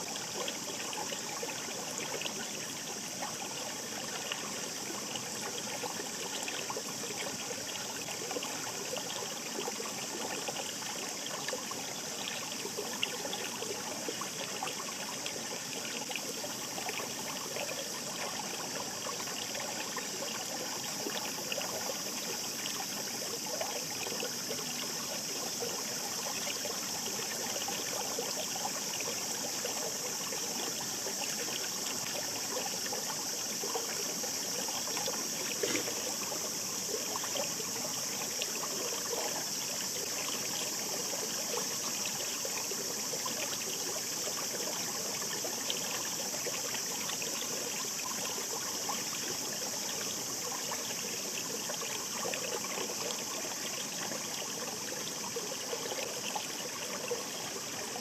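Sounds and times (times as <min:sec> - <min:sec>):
shallow river babbling: 0:00.0 - 0:58.0.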